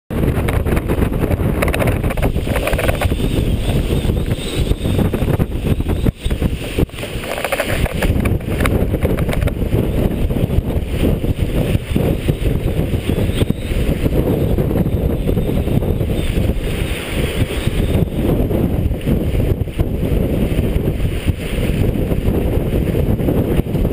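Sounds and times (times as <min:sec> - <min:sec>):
wind buffeting microphone: 0:00.1 - 0:23.9
water splashing along boat hull: 0:00.2 - 0:23.9.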